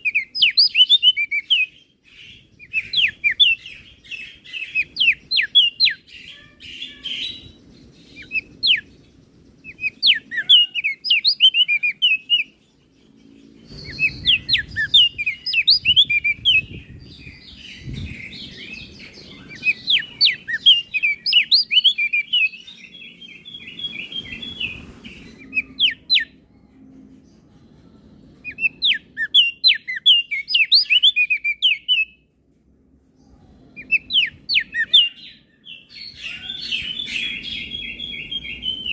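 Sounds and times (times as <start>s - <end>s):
bird twittering song: 0.0s - 32.2s, 33.1s - 38.9s.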